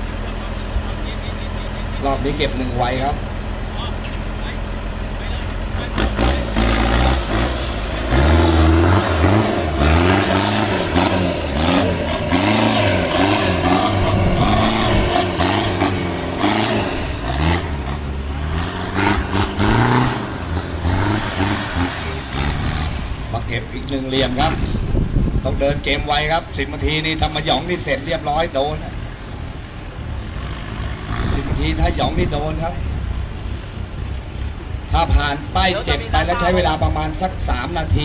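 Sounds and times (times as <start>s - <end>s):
diesel truck engine revving: 0.0s - 38.0s.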